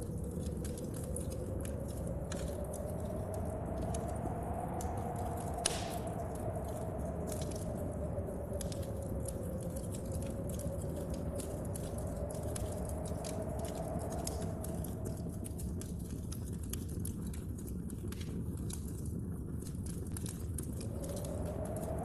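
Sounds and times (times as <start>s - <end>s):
howling wind tone: 0.0s - 18.0s, 18.6s - 22.0s
rain: 0.0s - 22.0s
storm wind: 0.0s - 22.0s
wood fire crackling and popping: 0.0s - 22.0s.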